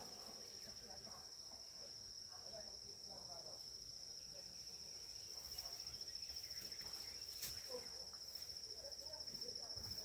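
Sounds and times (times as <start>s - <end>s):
cricket trilling: 0.0s - 10.0s.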